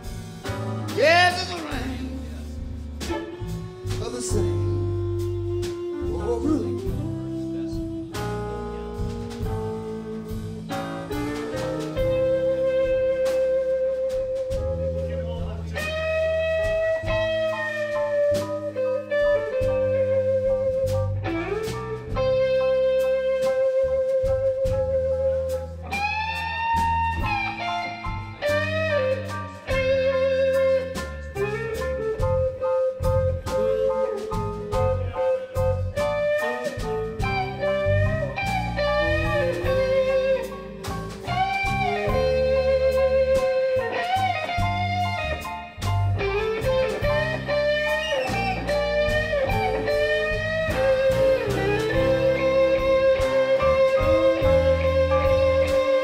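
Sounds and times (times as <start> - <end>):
blues band playing: 0.0 - 56.0
lead electric guitar bending notes: 0.0 - 56.0.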